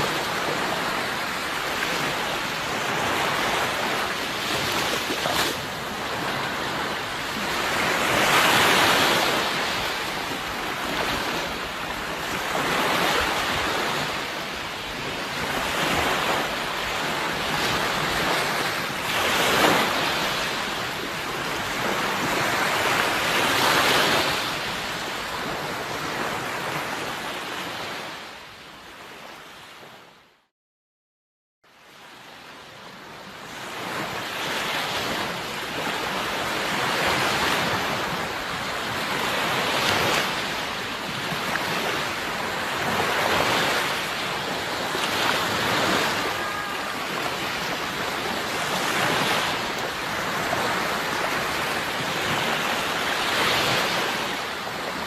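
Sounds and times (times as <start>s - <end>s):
sea waves washing in: 0.0s - 30.0s, 32.0s - 55.0s.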